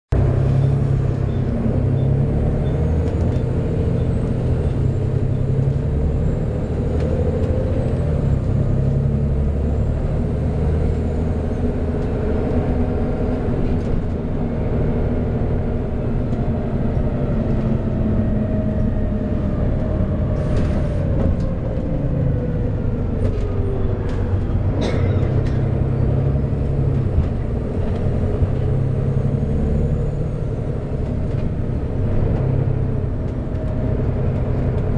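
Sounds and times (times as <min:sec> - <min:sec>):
bus diesel engine running: 0:00.1 - 0:34.9.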